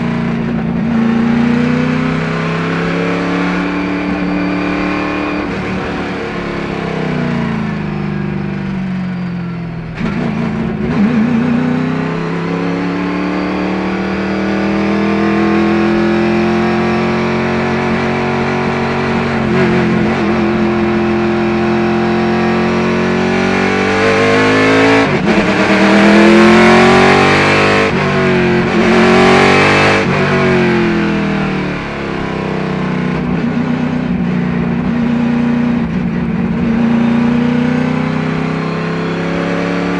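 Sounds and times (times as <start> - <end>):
race car engine revving: 0.0 - 8.8, 9.6 - 39.9.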